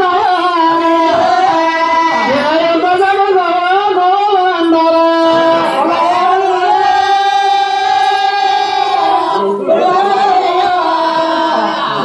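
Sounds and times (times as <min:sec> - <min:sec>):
person singing long notes: 0:00.0 - 0:12.0.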